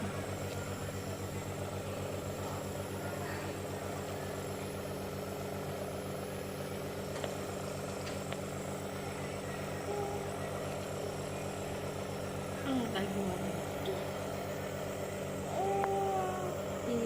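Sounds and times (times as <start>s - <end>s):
nebulizer compressor humming: 0.0s - 17.0s.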